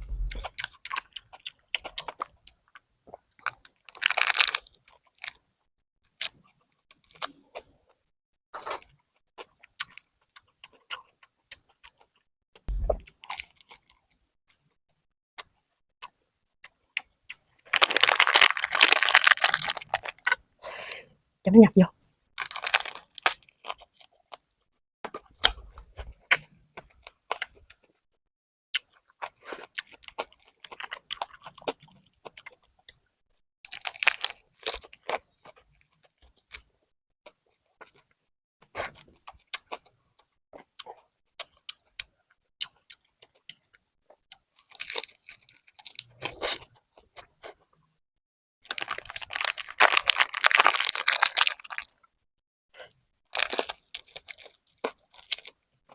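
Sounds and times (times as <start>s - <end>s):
chewing and crunching food: 0.0s - 14.8s, 15.4s - 20.5s, 22.4s - 28.1s, 28.7s - 33.1s, 33.7s - 48.0s, 48.6s - 55.9s.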